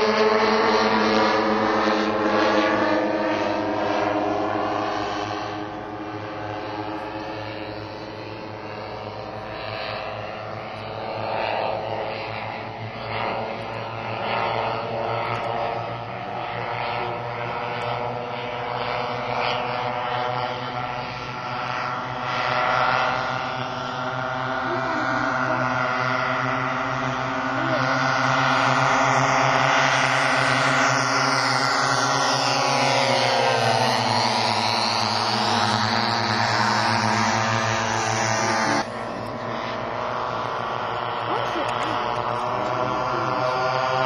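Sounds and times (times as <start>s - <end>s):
model airplane engines droning: 0.0s - 44.0s.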